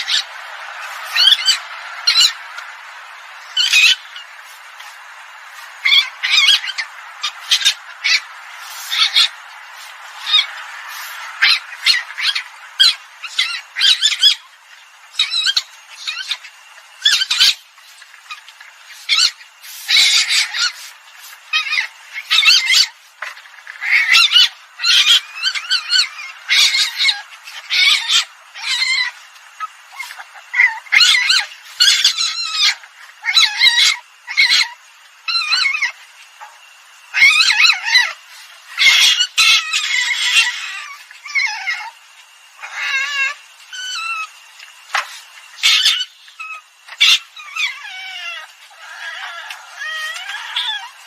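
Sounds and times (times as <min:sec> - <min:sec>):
civet squawking cries: 0:00.0 - 0:23.0, 0:23.6 - 0:36.0, 0:37.1 - 0:42.0, 0:45.6 - 0:51.0.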